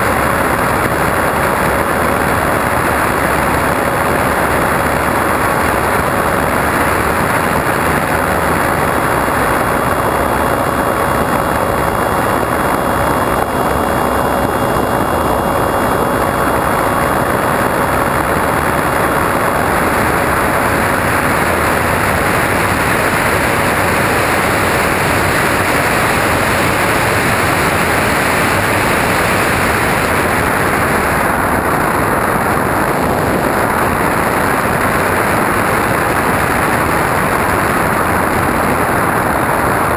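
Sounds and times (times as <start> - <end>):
faint steady whine: 0.0 - 39.9
propeller and motor: 0.0 - 39.9
wind rushing over microphone: 0.0 - 39.9.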